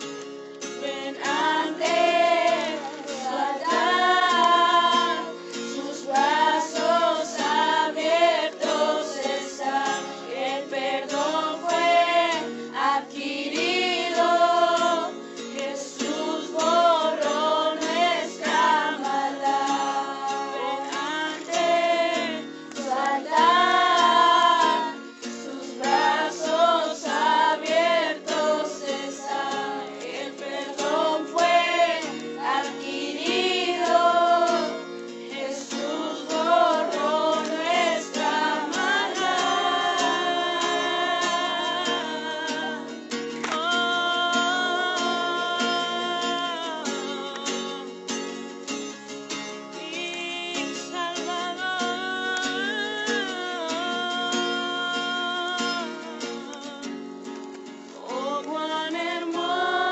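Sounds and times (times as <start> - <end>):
strummed acoustic guitar: 0.0 - 59.9
women singing worship song: 0.7 - 47.9, 49.6 - 57.0, 57.9 - 59.9.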